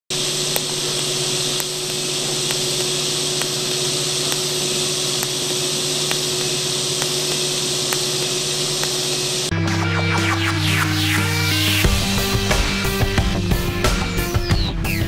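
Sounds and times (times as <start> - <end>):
welding arc hissing: 0.1 - 15.0.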